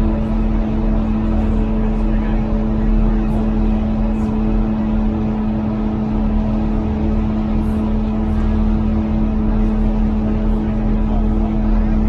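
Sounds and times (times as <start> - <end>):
train engine drone: 0.0 - 12.0.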